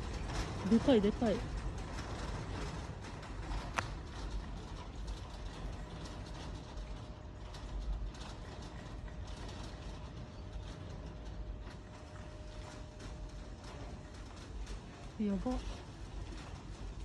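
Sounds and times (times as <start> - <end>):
low rumble: 0.0 - 17.0
things rattling and creaking: 0.0 - 17.0.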